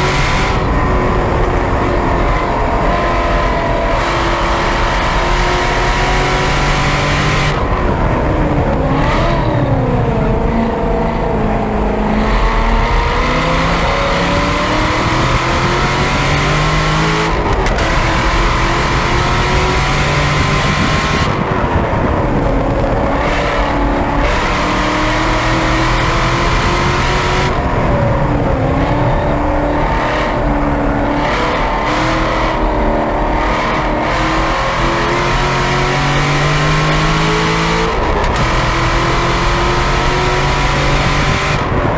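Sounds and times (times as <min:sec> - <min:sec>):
sports car engine accelerating: 0:00.0 - 0:41.9.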